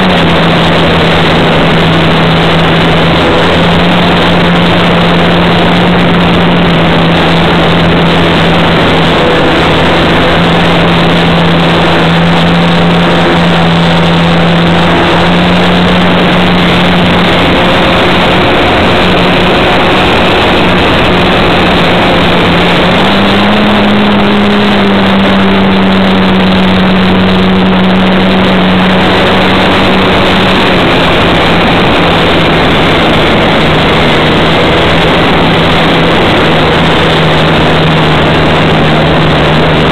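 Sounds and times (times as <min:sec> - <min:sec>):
model plane motor and propeller: 0:00.0 - 0:39.9
rushing air noise: 0:00.0 - 0:39.9.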